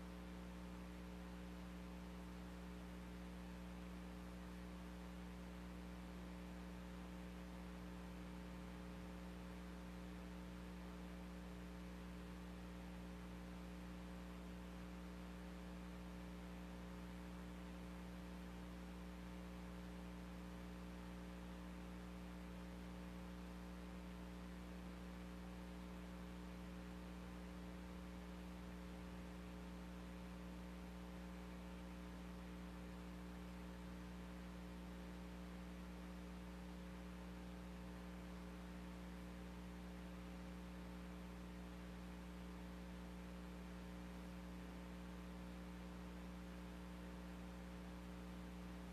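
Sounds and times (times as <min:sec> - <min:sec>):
faint electrical hum: 0:00.0 - 0:48.9.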